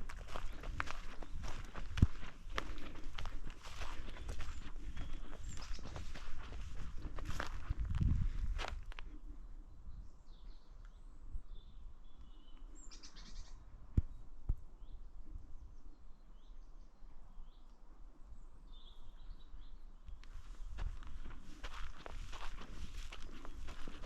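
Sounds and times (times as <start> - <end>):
small birds chirping: 0.0 - 7.9, 8.5 - 24.0.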